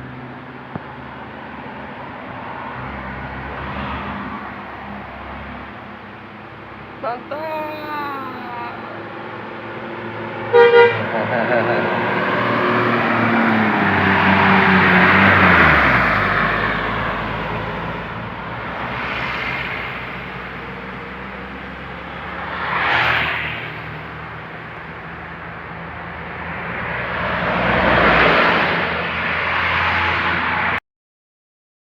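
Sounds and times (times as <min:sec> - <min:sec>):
low engine hum: 0:00.0 - 0:29.4
vehicles passing by: 0:00.0 - 0:30.8.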